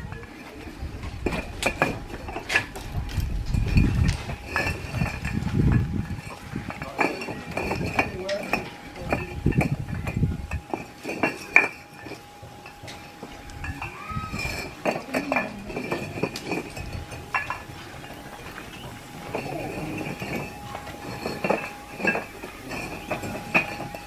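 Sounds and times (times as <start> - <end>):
background voices: 0.0 - 24.0
bricks knocking and clinking: 0.0 - 24.0.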